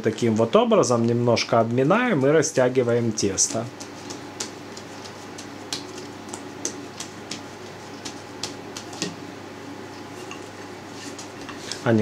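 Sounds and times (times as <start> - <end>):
hands patting dough: 0.0 - 12.0.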